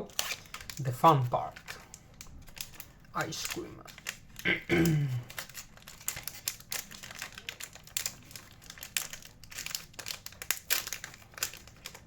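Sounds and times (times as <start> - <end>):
wrapper crinkling: 0.0 - 12.0.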